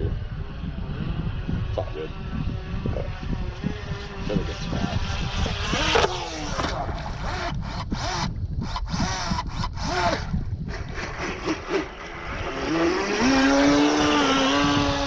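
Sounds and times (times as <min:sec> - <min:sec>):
boat motor revving: 0:00.0 - 0:15.0.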